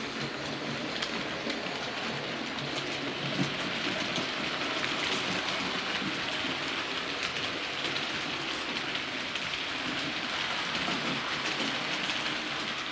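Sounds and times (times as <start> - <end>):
model train wheels rolling: 0.0 - 12.9.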